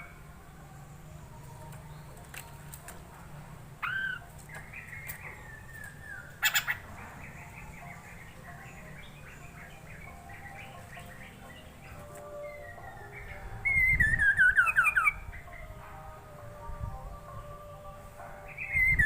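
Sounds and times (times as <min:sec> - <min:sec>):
bird singing warbled phrases: 0:00.0 - 0:19.0.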